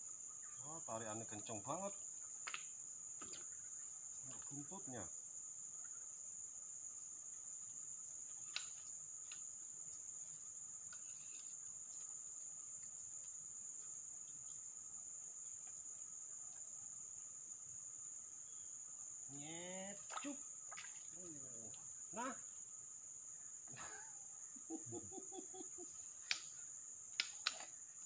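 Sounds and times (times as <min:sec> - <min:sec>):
forest insects chirring: 0:00.0 - 0:28.0.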